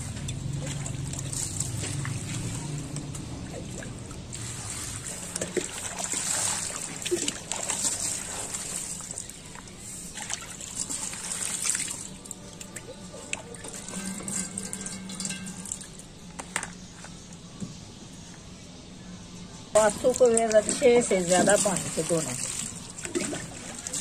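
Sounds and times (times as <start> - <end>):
hand washing wet leaves: 0.0 - 16.1, 19.8 - 24.0
water trickling and splashing: 0.0 - 17.4, 19.7 - 24.0.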